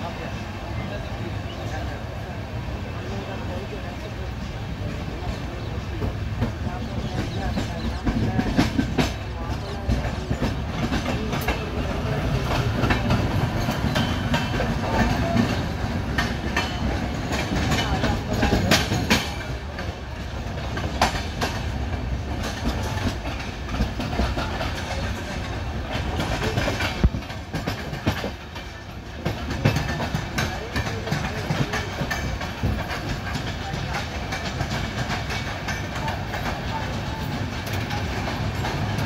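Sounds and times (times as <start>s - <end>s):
train wheels rumbling and clacking: 0.0s - 39.0s.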